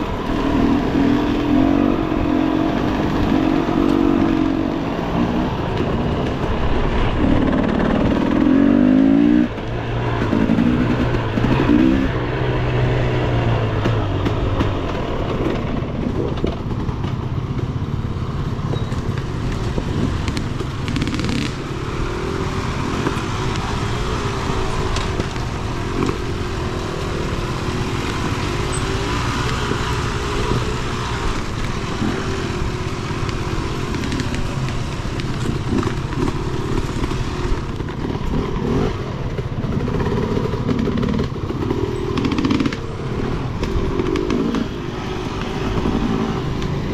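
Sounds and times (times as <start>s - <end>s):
dirt bike engine revving: 0.0s - 6.1s, 7.1s - 13.6s, 19.3s - 46.9s.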